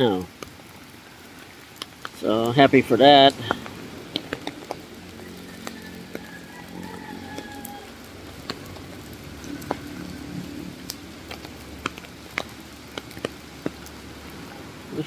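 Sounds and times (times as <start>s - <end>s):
heavy rain falling: 0.0s - 15.0s
raindrops tapping on umbrella: 0.0s - 15.0s.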